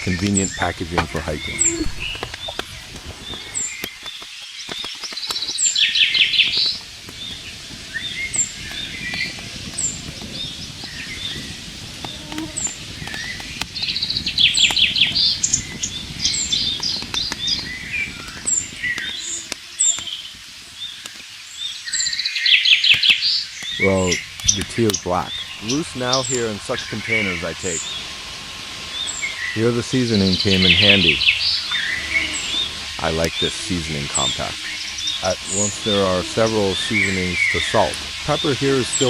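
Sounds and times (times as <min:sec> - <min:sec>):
bird chirping: 0:00.0 - 0:39.0
rapid birdsong phrase: 0:00.0 - 0:39.0.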